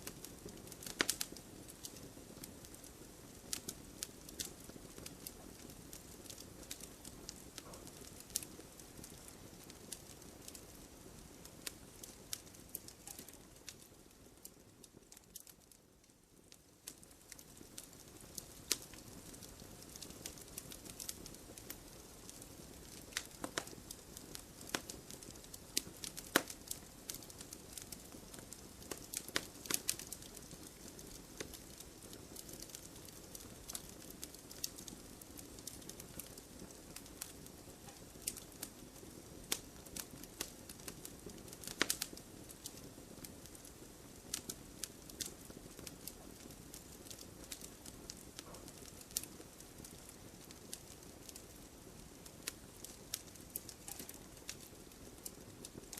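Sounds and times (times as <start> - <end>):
fire crackling and popping: 0.0 - 55.9
soft rush of fire: 0.0 - 55.9.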